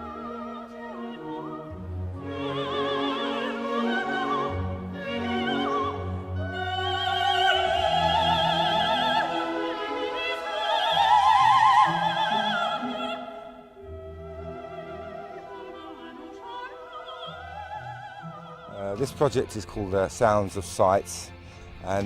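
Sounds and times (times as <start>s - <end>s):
operatic singing with vibrato: 0.0s - 19.4s
orchestral accompaniment: 0.0s - 22.0s.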